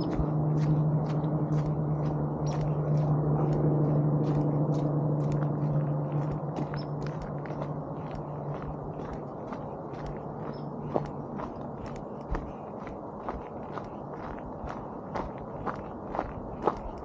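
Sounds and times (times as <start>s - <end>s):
footsteps on road: 0.0s - 17.0s
steady low hum: 0.0s - 17.0s.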